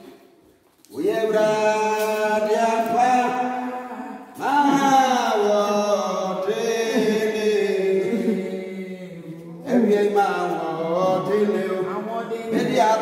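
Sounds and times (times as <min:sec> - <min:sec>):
person chanting: 0:00.9 - 0:13.0.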